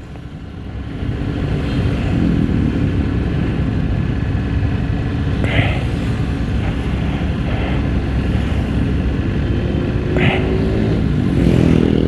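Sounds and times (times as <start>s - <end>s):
scooter engine rumble: 0.0s - 12.0s
traffic idling: 0.0s - 12.0s.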